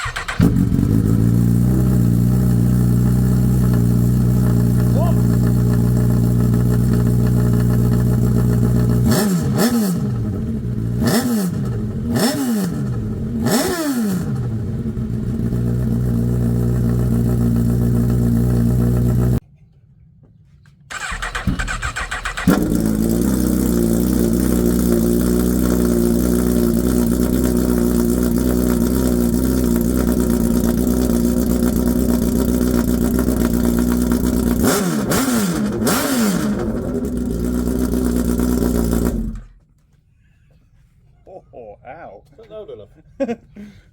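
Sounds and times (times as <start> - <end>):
motorcycle engine idling and revving: 0.0 - 19.4, 20.9 - 39.7.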